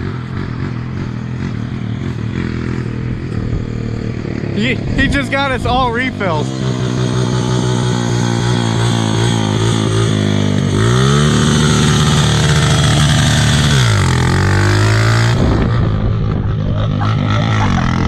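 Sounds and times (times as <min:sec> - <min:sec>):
small vehicle engine revving: 0:00.0 - 0:18.0.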